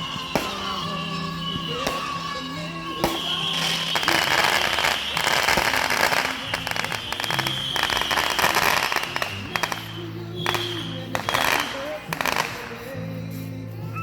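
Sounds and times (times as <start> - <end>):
faint music: 0.0 - 14.0
firework high whistle: 0.0 - 14.0
fireworks crackling and popping: 0.0 - 14.0.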